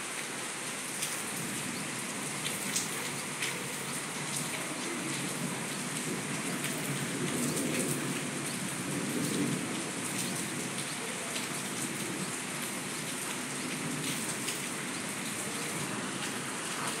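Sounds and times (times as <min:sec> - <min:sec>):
light rain on rooftops: 0:00.0 - 0:17.0.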